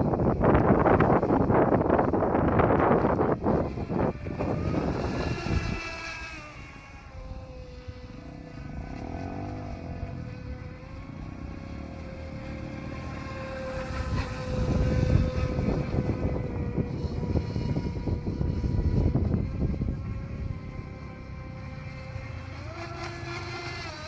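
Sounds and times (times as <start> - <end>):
electric motor whine: 0.0 - 24.0.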